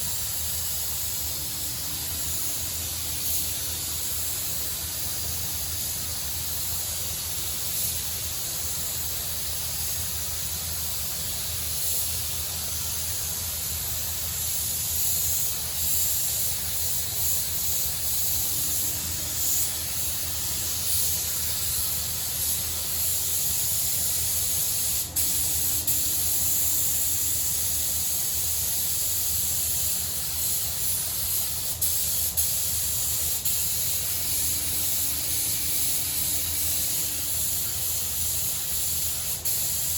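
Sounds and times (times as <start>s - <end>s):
spray gun hissing: 0.0s - 39.9s.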